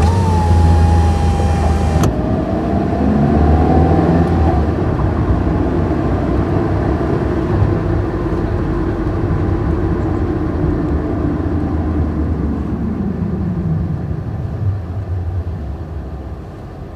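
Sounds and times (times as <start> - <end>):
car engine and road rumble: 0.0 - 16.9.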